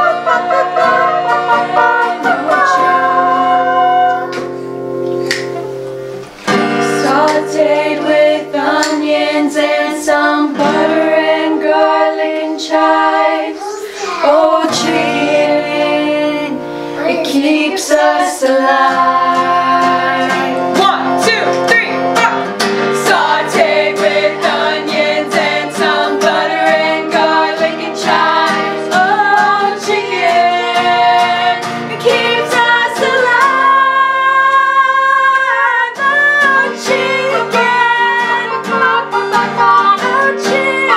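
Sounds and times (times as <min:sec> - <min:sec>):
girls singing together: 0:00.0 - 0:04.6, 0:06.6 - 0:40.9
strummed acoustic guitar: 0:00.0 - 0:40.9.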